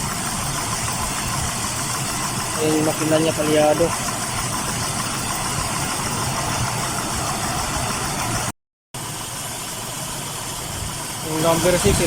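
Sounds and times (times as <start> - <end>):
car engine idling rough: 0.0 - 12.0.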